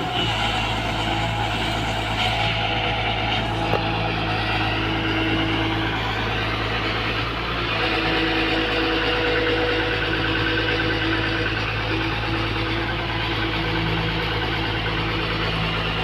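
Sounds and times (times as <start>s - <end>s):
excavator diesel engine running: 0.0s - 16.0s
higher wavering tone: 0.0s - 16.0s.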